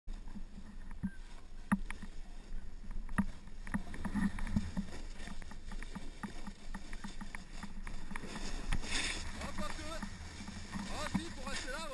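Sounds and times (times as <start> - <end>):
skis scraping over crusty snow: 0.1 - 11.9.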